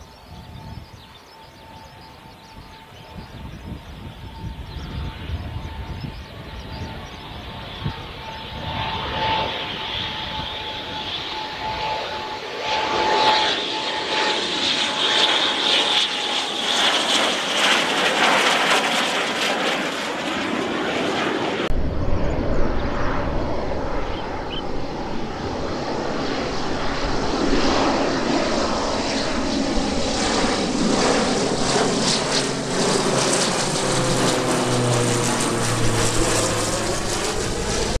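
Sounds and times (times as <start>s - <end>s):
jet engines whining: 0.0s - 38.0s
propeller plane drone: 0.0s - 38.0s.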